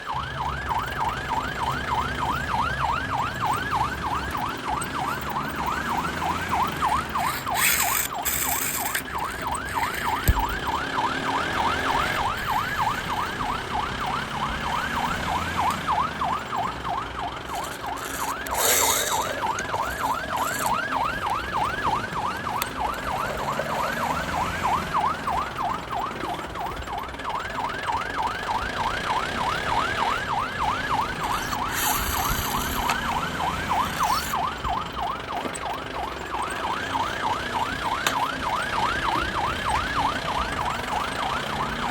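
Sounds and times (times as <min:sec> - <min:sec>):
toy electronic siren yelping: 0:01.4 - 0:25.8, 0:29.1 - 0:41.9.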